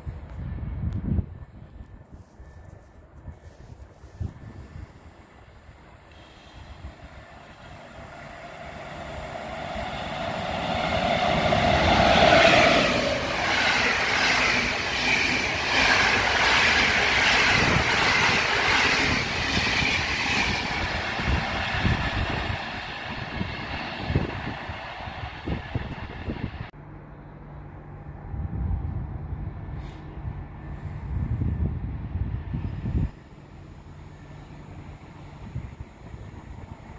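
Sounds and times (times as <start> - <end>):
electric locomotive passing: 3.5 - 36.9.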